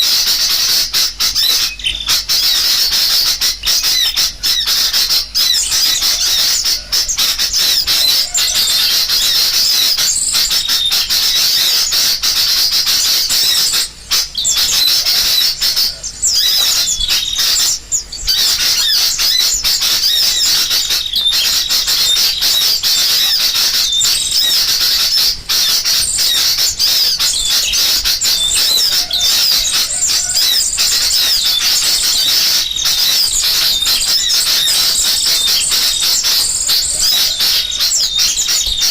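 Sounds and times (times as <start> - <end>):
bulbuls calling: 0.0 - 38.9
songbirds chirping: 0.0 - 38.9.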